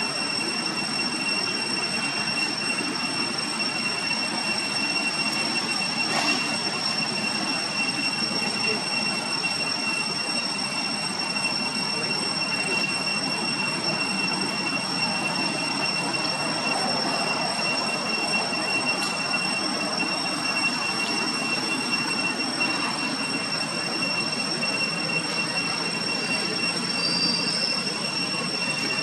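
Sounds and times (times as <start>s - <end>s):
high-pitched whine: 0.0s - 29.0s.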